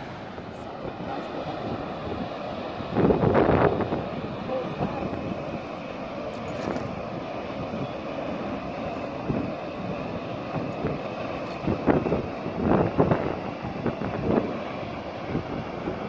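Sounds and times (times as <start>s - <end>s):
waterfall roaring: 0.0s - 16.0s
wind buffeting microphone: 0.0s - 16.0s.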